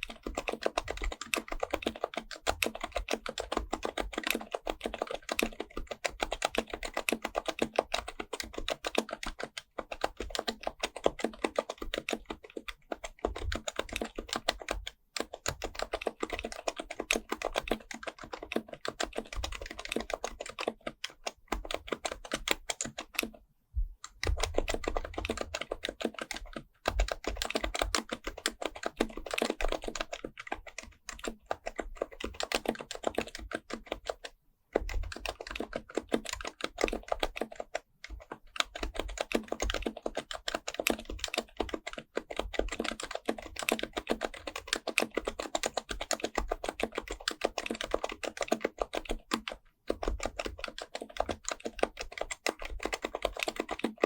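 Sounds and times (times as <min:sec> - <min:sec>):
fast typing on keyboard: 0:00.0 - 0:23.4, 0:24.0 - 0:54.0.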